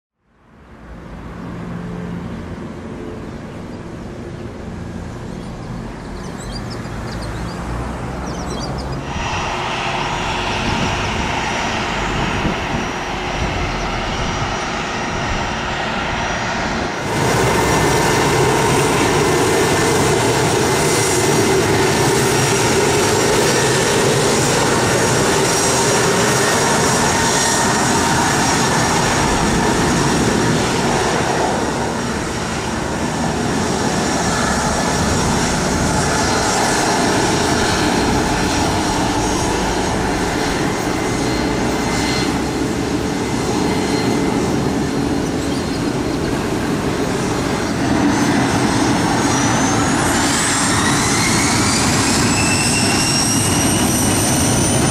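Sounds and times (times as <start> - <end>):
jet engines running with high whine: 0.2 - 54.9.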